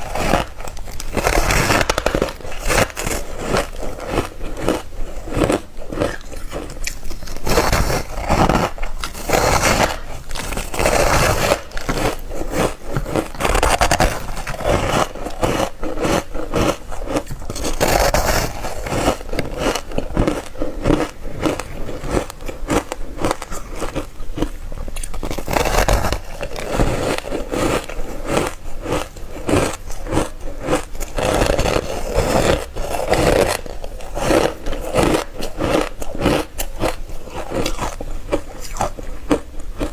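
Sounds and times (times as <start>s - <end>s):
teeth crunching ice: 0.0s - 39.9s.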